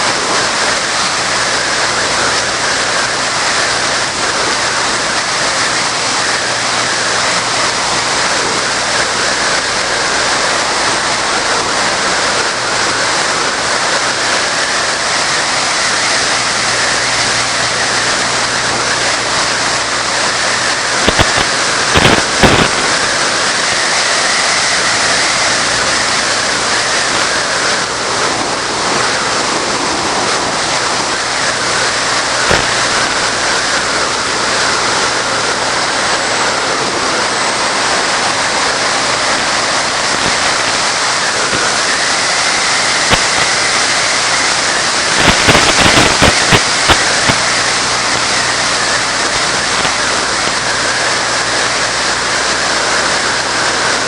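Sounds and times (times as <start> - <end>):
short burst of crackling: 0.0 - 36.7, 37.5 - 54.0
faint electric motor whine: 0.0 - 54.0
loud rushing hiss: 0.0 - 54.0.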